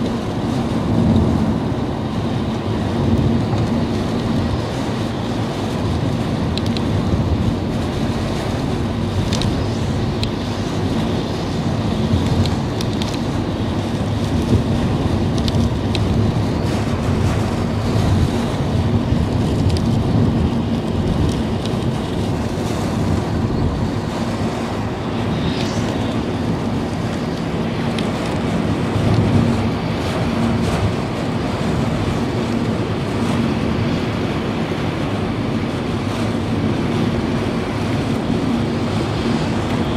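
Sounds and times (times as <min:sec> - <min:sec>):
car road and engine noise: 0:00.0 - 0:39.9
rain and water spray on car: 0:00.0 - 0:39.9.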